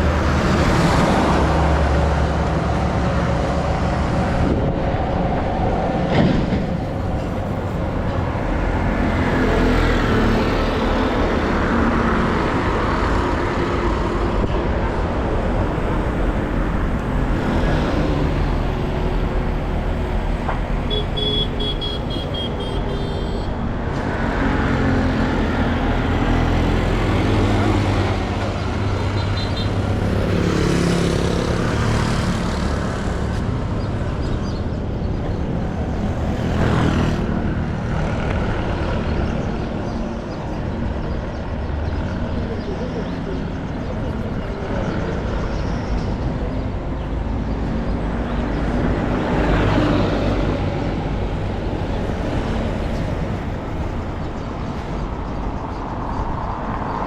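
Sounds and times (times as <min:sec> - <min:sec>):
vehicle engines passing: 0:00.0 - 0:57.0.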